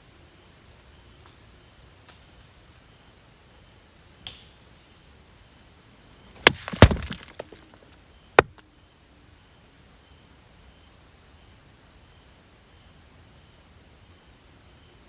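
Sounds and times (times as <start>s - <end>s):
faint night hiss: 0.0s - 6.5s, 7.2s - 15.0s.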